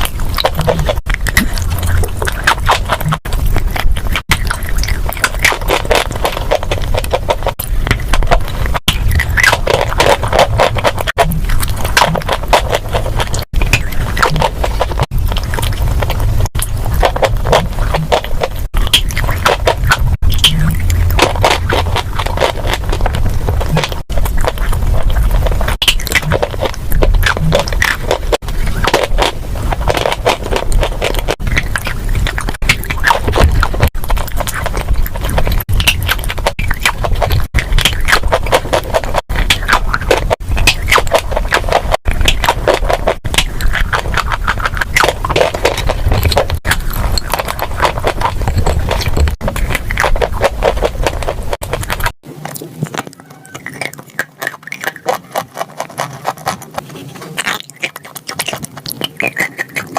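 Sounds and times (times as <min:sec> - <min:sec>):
chewing crunchy chalk: 0:00.0 - 0:59.9.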